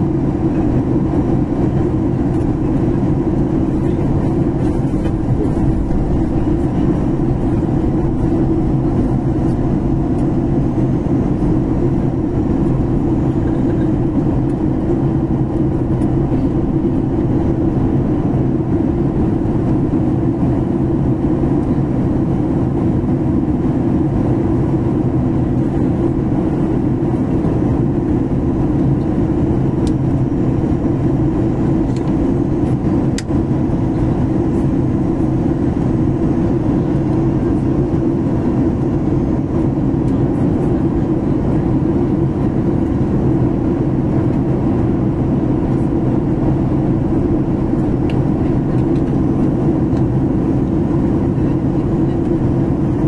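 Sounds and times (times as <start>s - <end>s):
airliner cabin drone: 0.0s - 53.0s.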